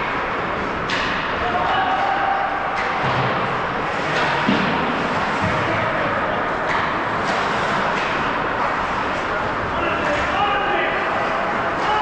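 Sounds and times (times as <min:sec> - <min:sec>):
skating and crowd noise in hall: 0:00.0 - 0:12.0.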